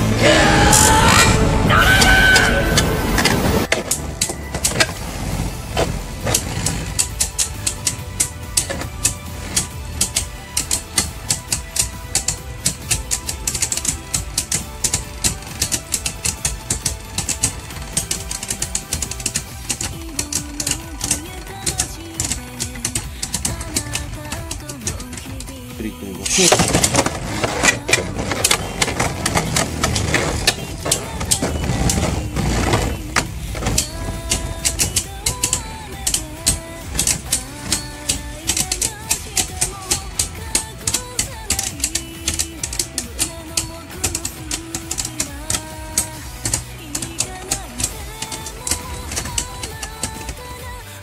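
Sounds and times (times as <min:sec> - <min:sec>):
music: 0:00.0 - 0:51.0
spinning tops clashing clicks: 0:05.8 - 0:51.0.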